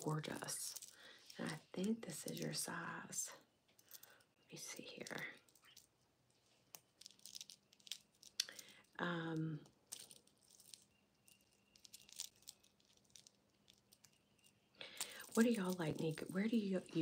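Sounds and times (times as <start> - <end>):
jewelry pieces rustling and clicking: 0.0 - 17.0.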